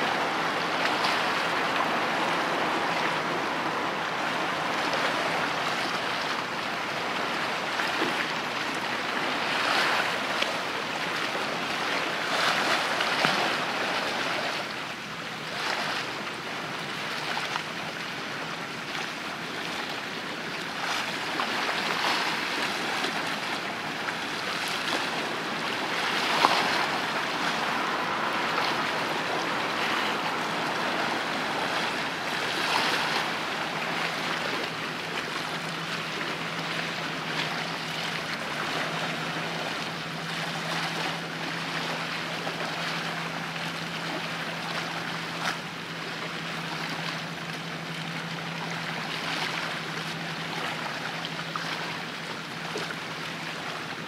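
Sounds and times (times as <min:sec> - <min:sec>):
small waves washing ashore: 0:00.0 - 0:54.0.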